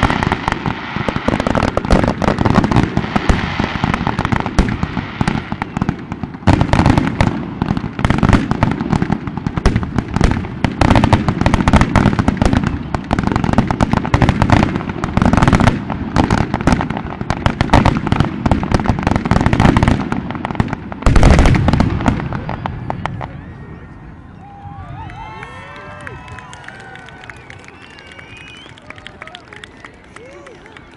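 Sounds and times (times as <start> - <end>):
fireworks bursting and crackling: 0.0 - 30.9.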